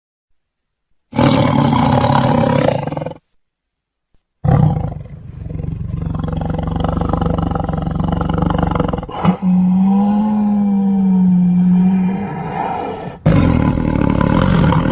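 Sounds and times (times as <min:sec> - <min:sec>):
tiger roaring: 0:01.1 - 0:03.2, 0:04.4 - 0:14.9.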